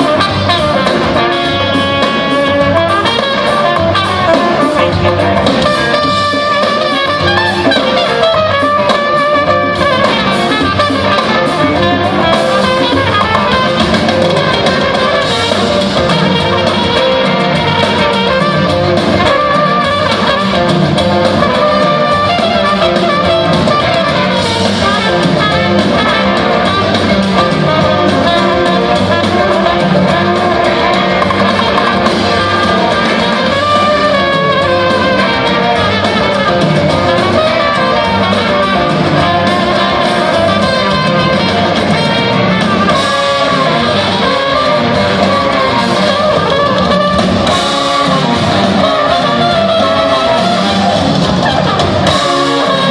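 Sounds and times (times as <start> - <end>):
electric guitar: 0.0 - 52.9
live rock band: 0.0 - 52.9.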